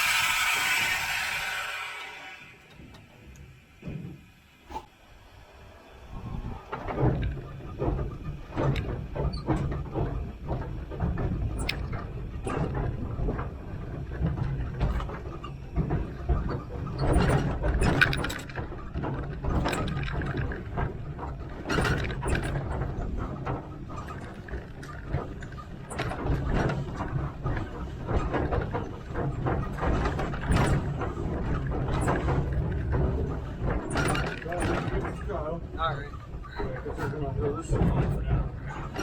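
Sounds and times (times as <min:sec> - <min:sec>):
clanks and knocks: 0:00.0 - 0:04.9, 0:06.2 - 0:39.0
steam locomotive rumbling: 0:00.0 - 0:39.0.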